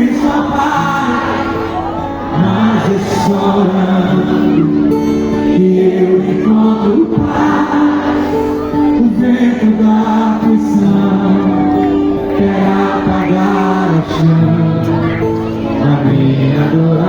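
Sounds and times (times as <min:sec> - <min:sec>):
gospel singing with accompaniment: 0:00.0 - 0:17.0.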